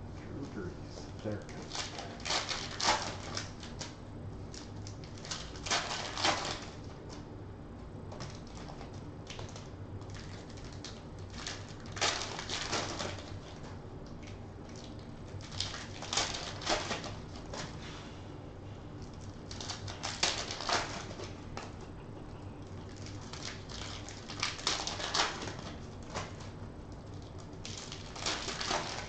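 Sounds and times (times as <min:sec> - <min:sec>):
foil wrappers crinkling and tearing: 0:01.2 - 0:07.2, 0:08.2 - 0:18.0, 0:19.0 - 0:21.8, 0:22.6 - 0:29.0.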